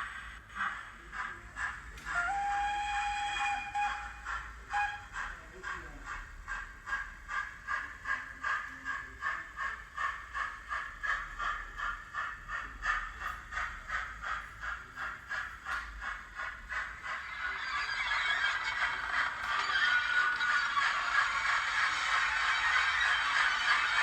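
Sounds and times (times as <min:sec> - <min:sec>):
steam hiss: 0:00.0 - 0:24.0
steam locomotive exhaust chuffs: 0:00.1 - 0:24.0.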